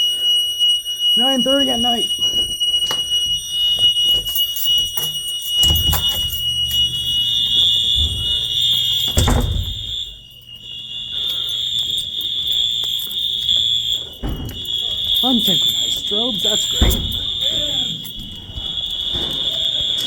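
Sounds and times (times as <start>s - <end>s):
fire alarm horns high tone: 0.0s - 20.0s.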